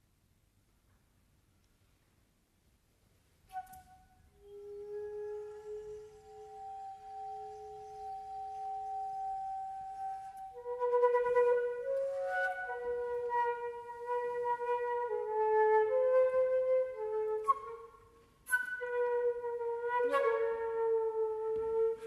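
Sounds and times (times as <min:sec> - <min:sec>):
solo flute playing slow notes: 0:03.5 - 0:22.0.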